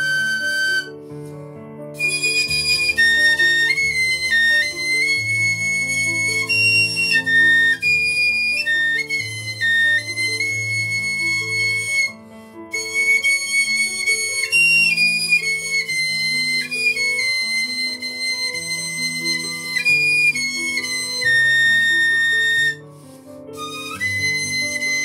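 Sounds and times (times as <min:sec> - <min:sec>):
piccolo playing slow melody: 0:00.0 - 0:01.1, 0:02.0 - 0:25.0.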